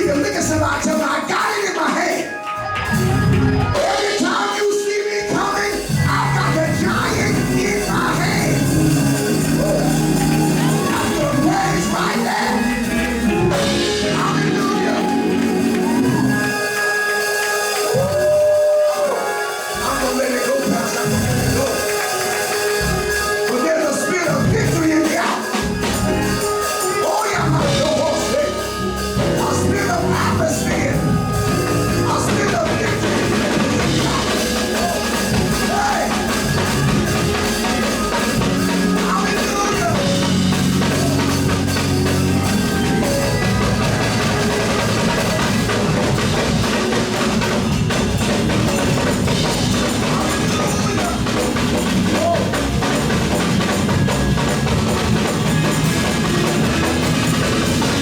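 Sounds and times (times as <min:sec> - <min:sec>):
gospel band with drum kit: 0:00.0 - 0:58.0
voices singing: 0:03.6 - 0:47.6, 0:48.7 - 0:52.9.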